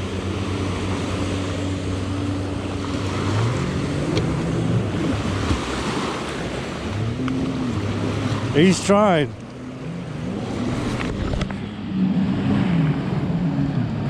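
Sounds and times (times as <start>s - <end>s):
jet ski engines running: 0.0s - 14.0s
water wash: 0.0s - 14.0s.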